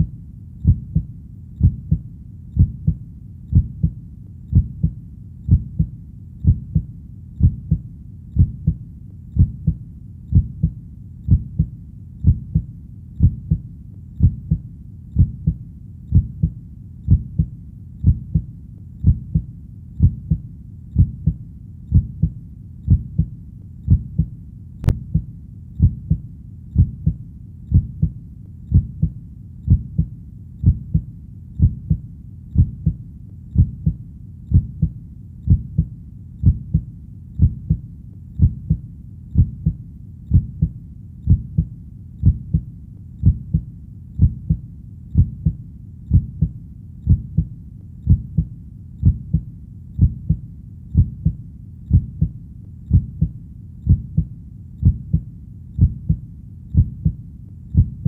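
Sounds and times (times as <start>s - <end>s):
faint low hum: 0.0s - 58.0s
heartbeat: 0.0s - 58.0s.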